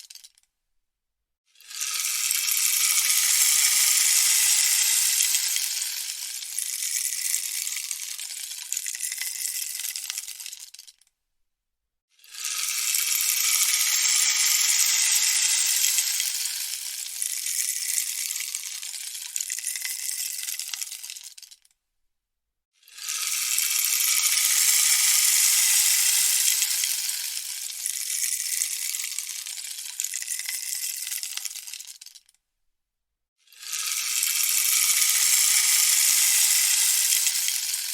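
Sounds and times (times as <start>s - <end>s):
rainstick pellets pattering: 1.6s - 11.0s, 12.3s - 21.6s, 23.0s - 32.4s, 33.6s - 37.9s.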